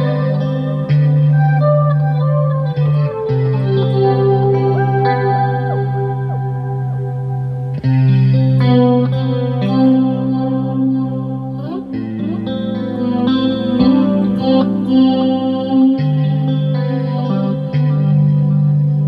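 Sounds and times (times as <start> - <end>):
electric guitar chords with chorus: 0.0 - 19.0.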